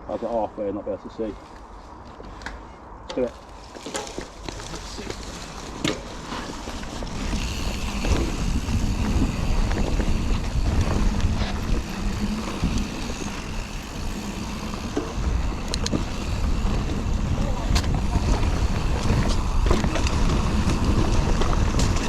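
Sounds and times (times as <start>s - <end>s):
rumbling bike tyres: 1.4s - 22.0s
bike rattling over rough ground: 1.9s - 22.0s
wind buffeting microphone: 4.3s - 22.0s.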